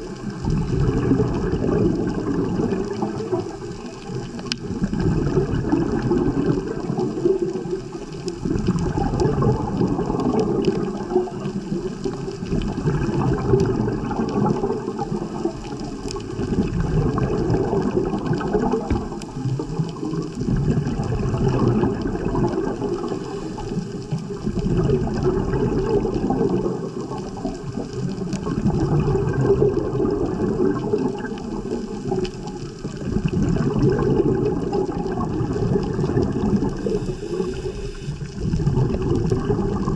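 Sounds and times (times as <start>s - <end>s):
underwater rushing water: 0.0s - 39.9s.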